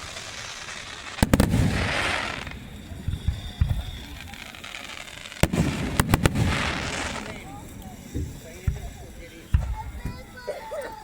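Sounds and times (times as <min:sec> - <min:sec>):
firework low booms: 0:00.0 - 0:10.4
firework bangs: 0:00.0 - 0:10.7
firework crackling: 0:00.0 - 0:11.0.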